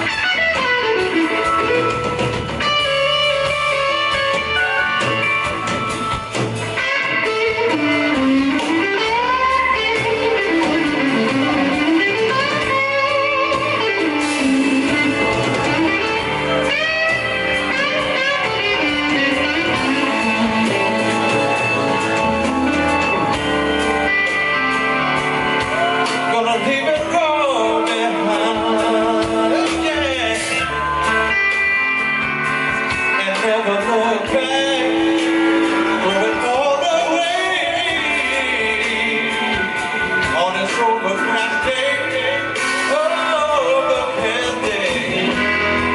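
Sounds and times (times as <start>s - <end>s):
blues rock band playing: 0.0s - 45.9s
electric guitar with bent notes: 0.0s - 45.9s.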